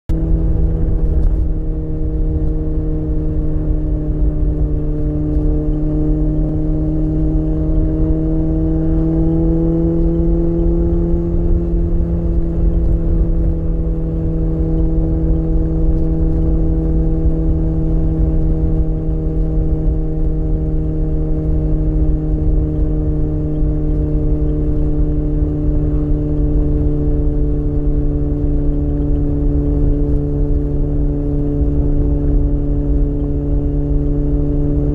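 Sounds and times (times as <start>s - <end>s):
motorcycle engine cruising: 0.1s - 34.9s.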